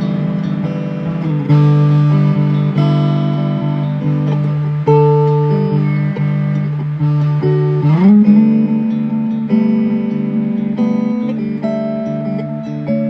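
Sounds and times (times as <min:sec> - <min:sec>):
plucked guitar notes: 0:00.0 - 0:13.0.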